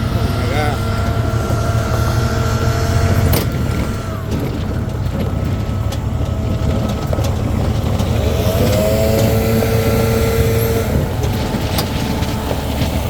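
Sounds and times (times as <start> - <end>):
leaf blower running: 0.0 - 13.0.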